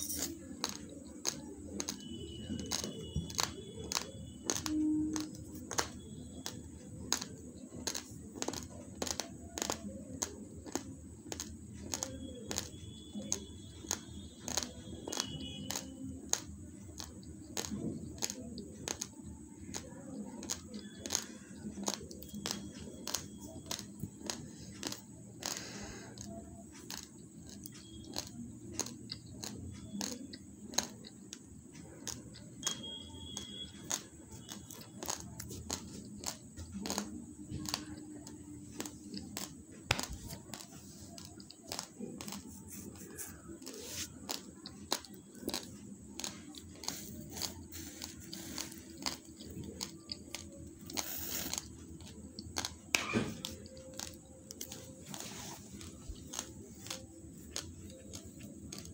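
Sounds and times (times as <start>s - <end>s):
rice grains crunched between teeth: 0.0s - 19.8s, 20.4s - 31.1s, 32.0s - 38.0s, 38.8s - 58.9s.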